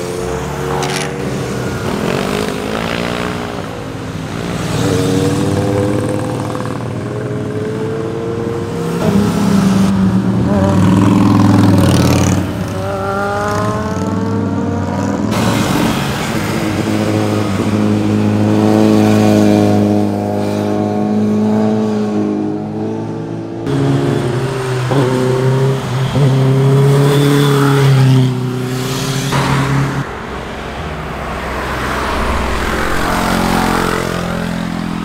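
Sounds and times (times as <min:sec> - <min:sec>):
motorcycles passing and revving: 0:00.0 - 0:35.0.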